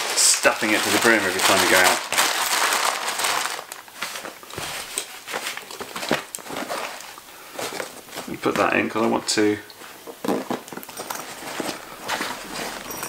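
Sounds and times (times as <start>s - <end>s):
fabric and packaging rustling: 0.0s - 13.0s.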